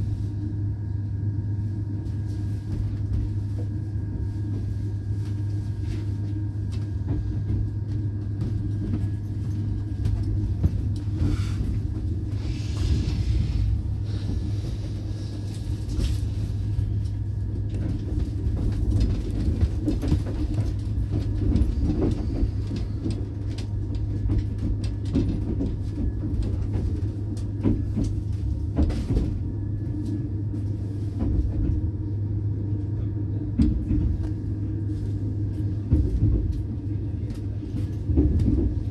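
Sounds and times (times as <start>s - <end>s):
train carriage rumble: 0.0s - 38.9s.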